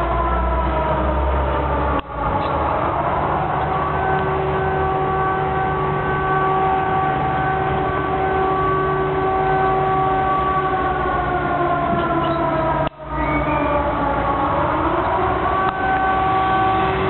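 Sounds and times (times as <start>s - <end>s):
civil defence siren: 0.0s - 17.0s.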